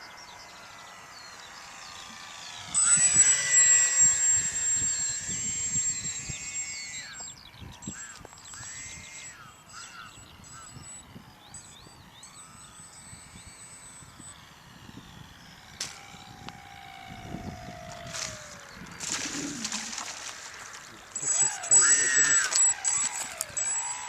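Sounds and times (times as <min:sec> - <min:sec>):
electric motors and propellers whining: 0:00.0 - 0:24.0.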